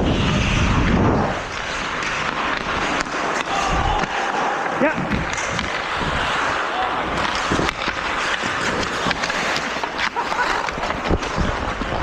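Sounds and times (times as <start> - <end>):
hockey sticks and puck clacking: 0.0 - 12.0
rush of rink noise: 0.0 - 12.0
skates scraping ice: 0.0 - 12.0.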